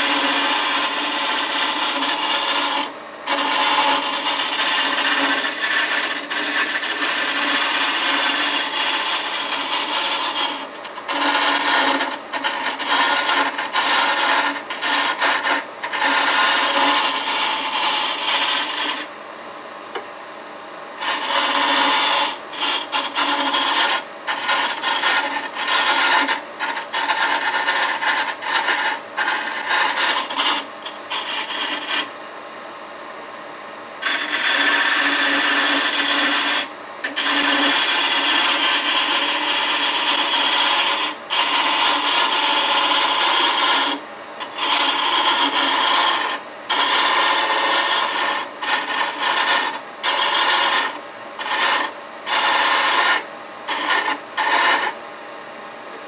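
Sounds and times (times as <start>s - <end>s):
lathe tool scraping wood: 0.0s - 19.1s, 21.0s - 32.1s, 34.0s - 55.0s.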